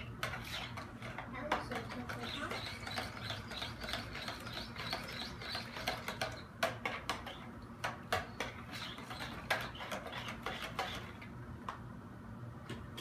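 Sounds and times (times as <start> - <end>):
spoon stirring thick food: 0.2 - 11.2.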